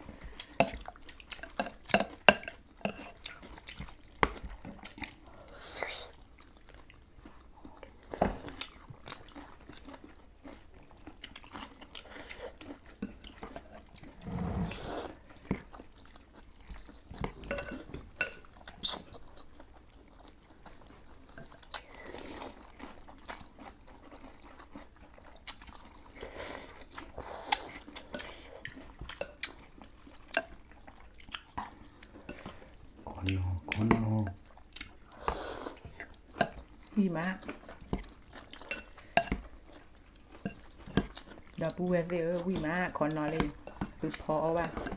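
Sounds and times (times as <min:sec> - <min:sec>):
people chewing: 0:00.0 - 0:44.9.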